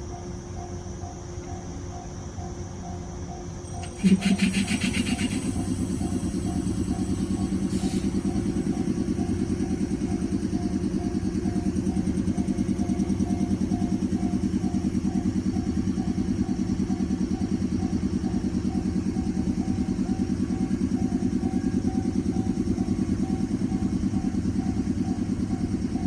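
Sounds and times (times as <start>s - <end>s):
vehicle motor running: 3.7s - 26.0s.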